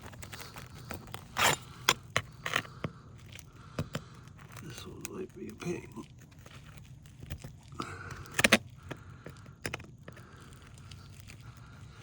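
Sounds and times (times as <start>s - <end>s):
nail pulling through shingle: 0.0s - 12.0s
pry bar scraping and clicking on nail: 0.1s - 5.6s, 6.3s - 11.4s.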